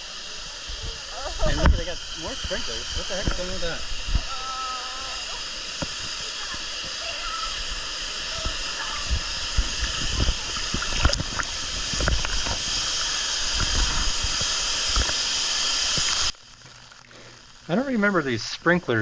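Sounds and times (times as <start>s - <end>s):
waterfall and sprinklers pouring: 0.0s - 19.0s.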